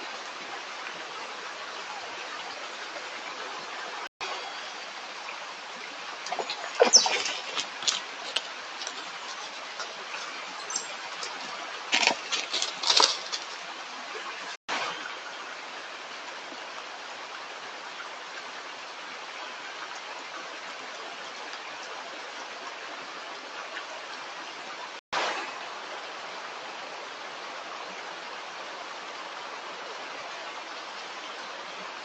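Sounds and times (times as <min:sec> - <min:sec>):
stream running: 0:00.0 - 0:32.0.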